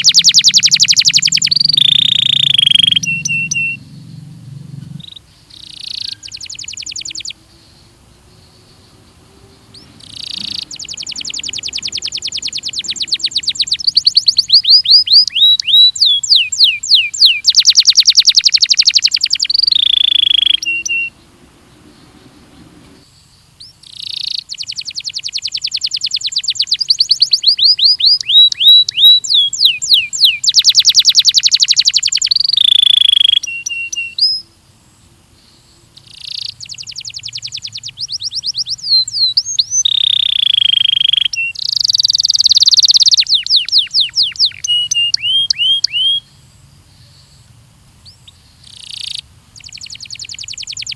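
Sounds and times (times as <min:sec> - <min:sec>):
canary singing trills: 0:00.0 - 0:34.6, 0:35.3 - 0:50.9.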